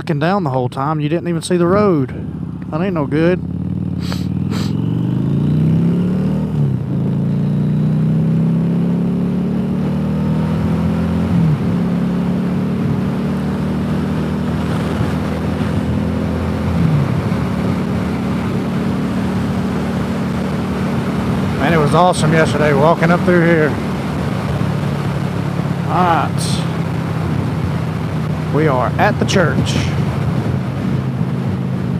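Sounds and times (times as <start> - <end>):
wind and road rush: 0.0 - 31.9
motorcycle engine running: 1.7 - 31.9.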